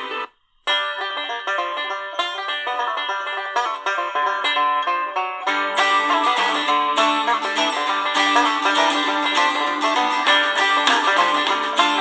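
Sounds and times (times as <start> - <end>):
banjo music from radio speaker: 0.0 - 12.0.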